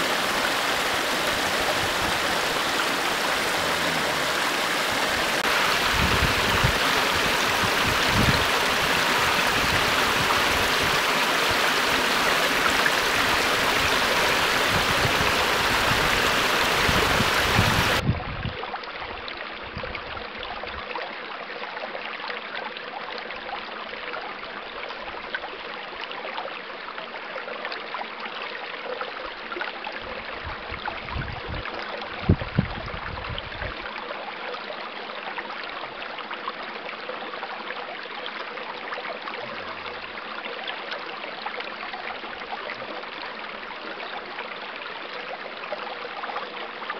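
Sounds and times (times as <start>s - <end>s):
stream water running: 0.0s - 46.9s.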